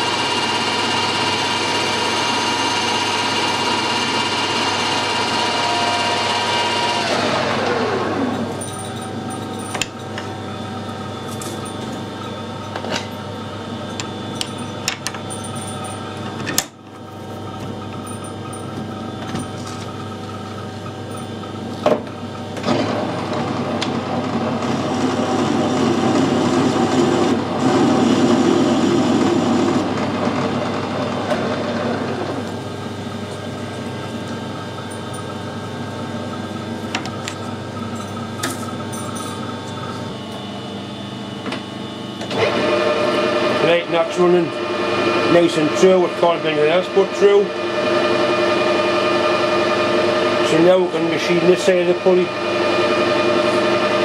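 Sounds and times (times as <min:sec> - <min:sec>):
lathe gear whine: 0:00.0 - 0:54.0.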